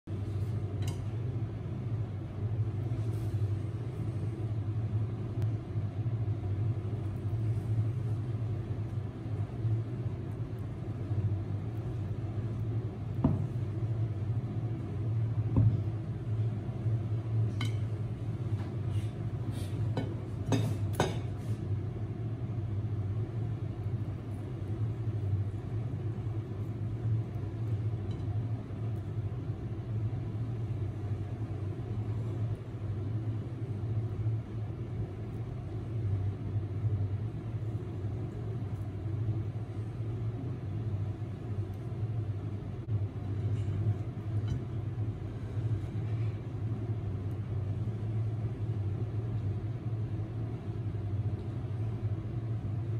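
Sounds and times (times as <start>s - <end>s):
low rumbling hum: 0.0s - 52.9s.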